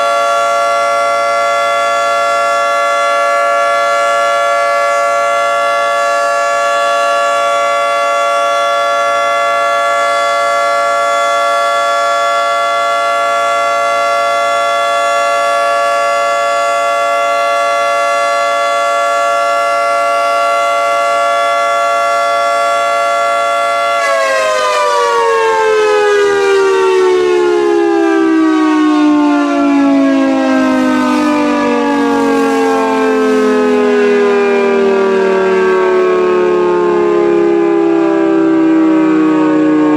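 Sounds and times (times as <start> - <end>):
dual-tone siren: 0.0 - 39.9.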